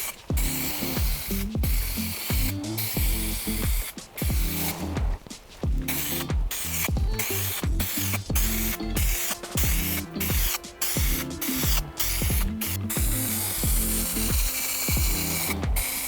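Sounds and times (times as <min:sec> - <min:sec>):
background music with kick drum: 0:00.0 - 0:16.0
paint spray gun hissing: 0:00.0 - 0:16.0.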